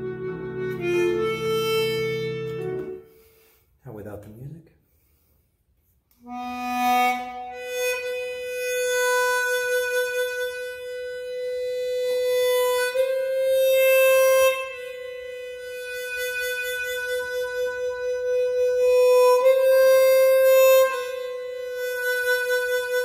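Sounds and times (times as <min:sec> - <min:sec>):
chromatic harmonica slow melody: 0:00.0 - 0:03.8, 0:06.1 - 0:23.0.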